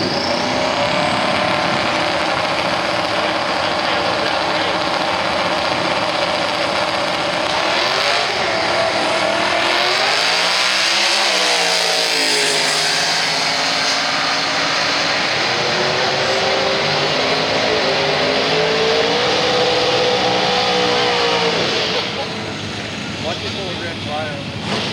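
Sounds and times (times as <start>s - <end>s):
car engine accelerating hard: 0.0s - 24.9s.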